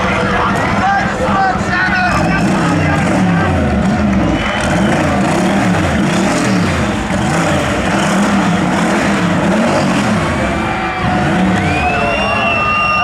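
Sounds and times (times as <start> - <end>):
car engine revving: 1.7 - 13.0.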